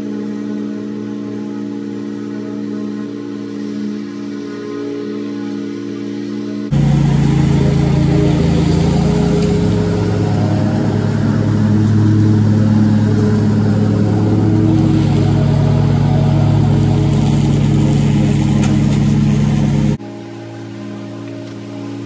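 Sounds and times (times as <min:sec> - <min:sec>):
riding lawn mower engine droning: 0:00.0 - 0:22.0.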